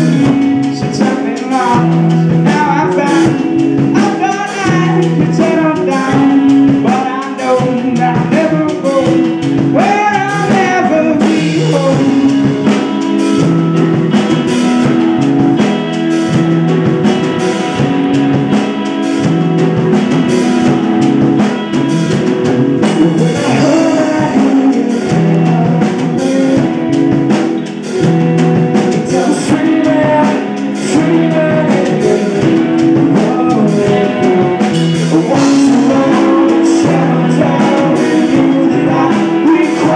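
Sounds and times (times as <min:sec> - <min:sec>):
man singing lead vocal: 0:00.0 - 0:14.0, 0:20.5 - 0:39.9
live rock band playing: 0:00.0 - 0:39.9.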